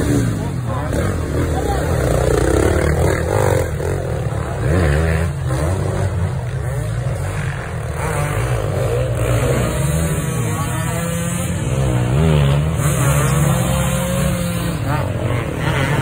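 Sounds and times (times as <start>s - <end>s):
motorcycle engine revving: 0.0s - 16.0s
motorcycle passing close: 0.0s - 16.0s
other motorcycles: 0.0s - 16.0s.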